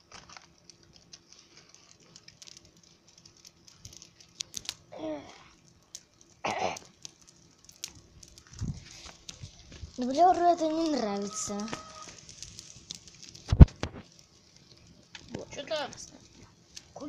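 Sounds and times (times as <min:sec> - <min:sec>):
cardboard fire crackling and popping: 0:00.0 - 0:17.0.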